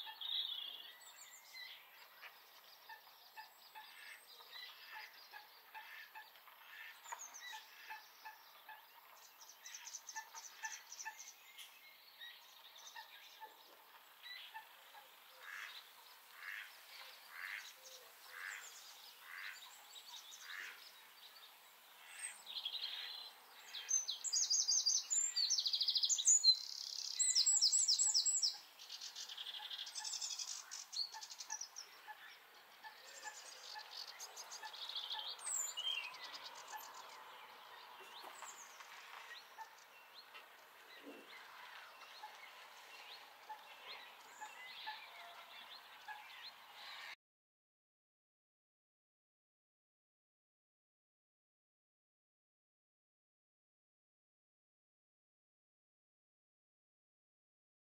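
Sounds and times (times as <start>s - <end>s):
wild birds singing: 0.0s - 47.2s.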